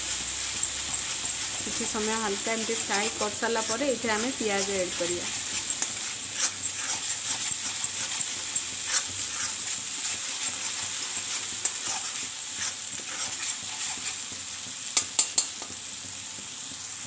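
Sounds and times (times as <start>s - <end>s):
paste sizzling in hot oil: 0.0s - 17.0s
metal spatula scraping pan: 0.1s - 14.3s.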